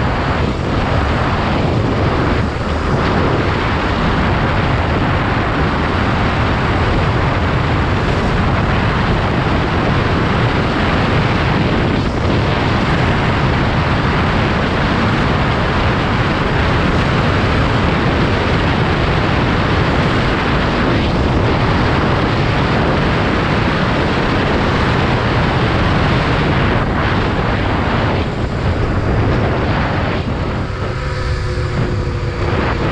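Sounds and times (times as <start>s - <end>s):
motorcycle engine: 0.0s - 32.9s
wind rush on microphone: 0.0s - 32.9s.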